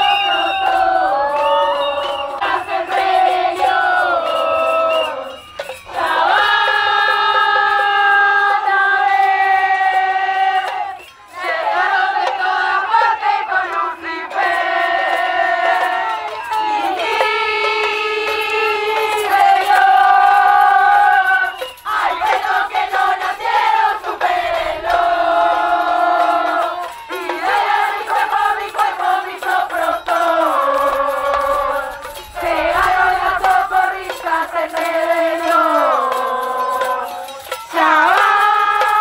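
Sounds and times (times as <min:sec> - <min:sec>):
women singing a chant together: 0:00.0 - 0:39.0.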